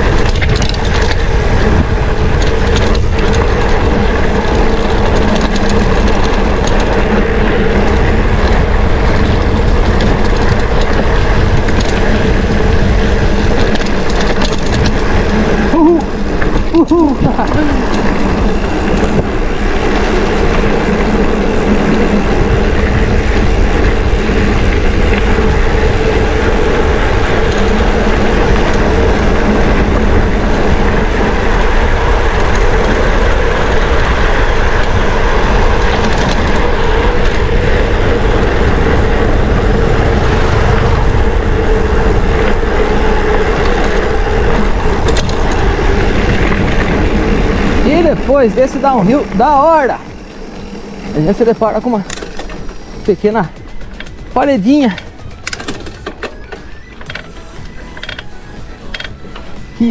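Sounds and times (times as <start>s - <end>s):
bike rattling: 0.0s - 59.9s
tyres rumbling over dirt and stones: 0.0s - 59.9s
wind on microphone: 0.0s - 59.9s.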